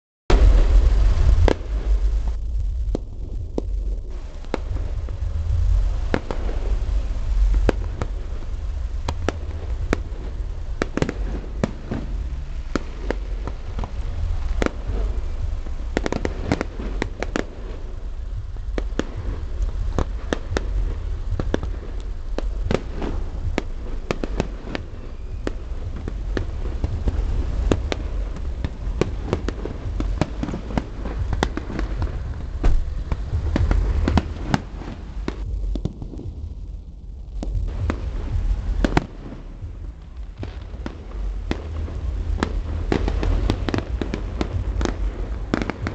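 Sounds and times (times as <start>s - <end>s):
fireworks cracks and bangs: 0.3s - 45.9s
low rumble: 0.3s - 45.9s.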